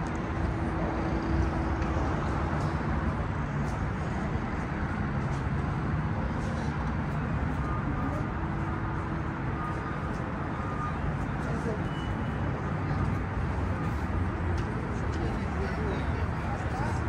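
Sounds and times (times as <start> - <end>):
road traffic rumbling: 0.0 - 17.0.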